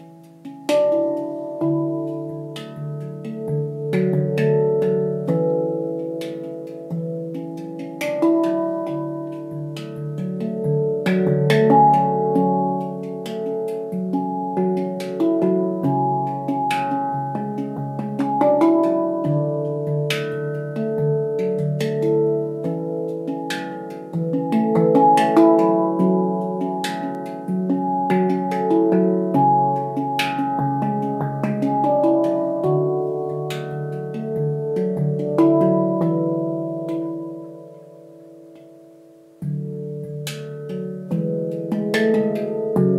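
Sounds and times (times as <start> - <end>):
handpan notes ringing: 0.0 - 42.9.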